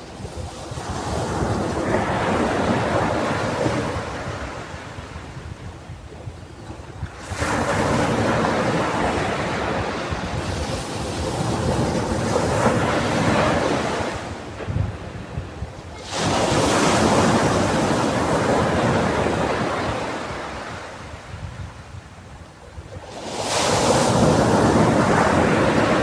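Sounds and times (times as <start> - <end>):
ocean waves breaking on beach: 0.0 - 26.0
wind on microphone: 0.0 - 26.0.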